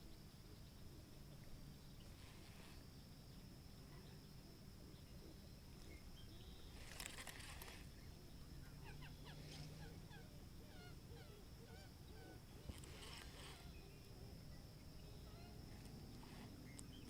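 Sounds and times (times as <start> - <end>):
birds chirping: 0.0 - 17.0
soft rush of noise: 0.0 - 17.0.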